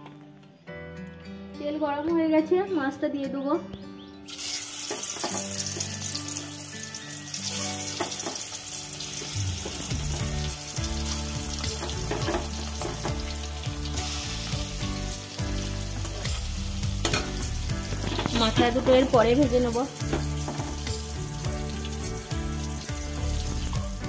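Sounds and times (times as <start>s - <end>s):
background music: 0.0s - 24.0s
fish sizzling in hot oil: 4.2s - 24.0s.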